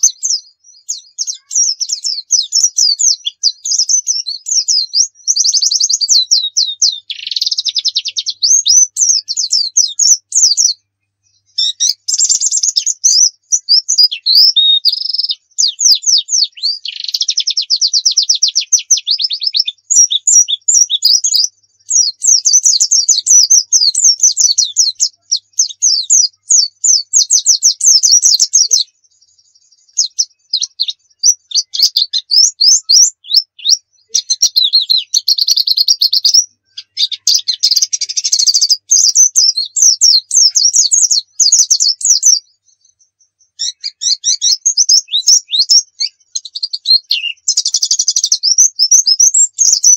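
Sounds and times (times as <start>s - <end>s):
bird twittering song: 0.0s - 49.9s.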